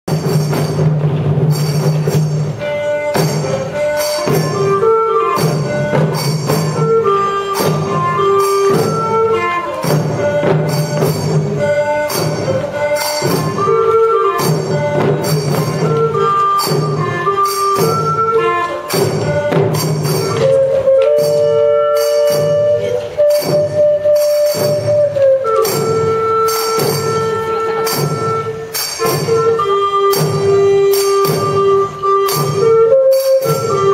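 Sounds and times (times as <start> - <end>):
bamboo flute melody: 0.1 - 33.9
taiko drums beating: 0.1 - 33.9.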